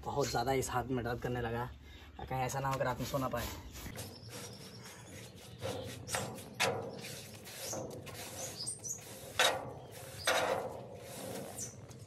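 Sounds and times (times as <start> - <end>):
bird chirping: 1.2 - 12.0.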